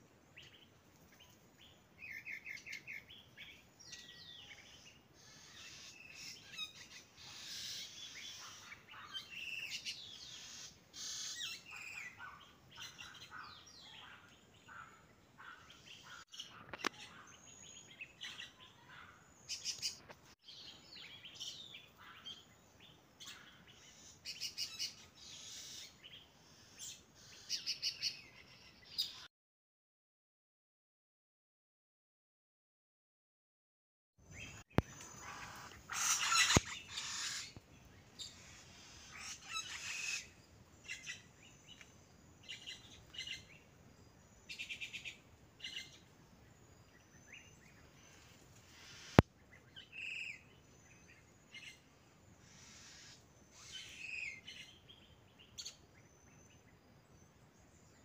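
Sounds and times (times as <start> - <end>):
birds chirping and singing: 0.4 - 29.3, 34.3 - 58.0.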